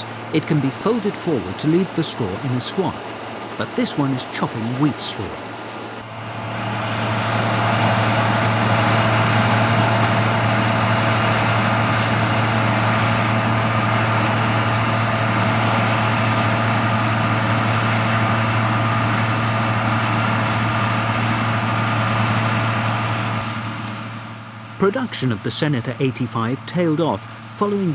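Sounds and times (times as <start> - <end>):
diesel engine drone: 0.0 - 27.9
threshing machinery noise: 0.0 - 27.9.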